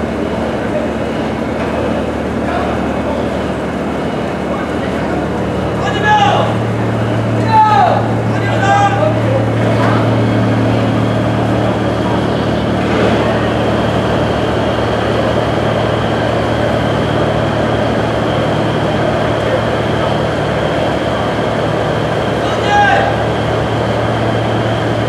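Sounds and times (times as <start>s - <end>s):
broad rush of noise: 0.0s - 25.0s
ship engine humming: 0.0s - 25.0s.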